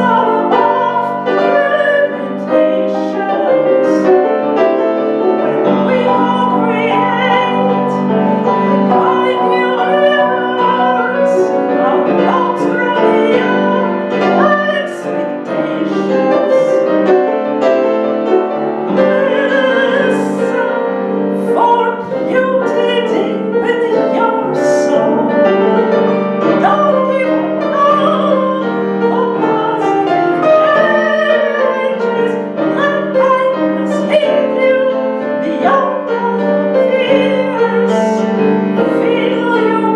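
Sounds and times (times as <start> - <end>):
person singing operatically: 0.0 - 4.2, 5.4 - 16.9, 18.8 - 25.6, 26.5 - 39.9
piano accompaniment: 0.0 - 39.9.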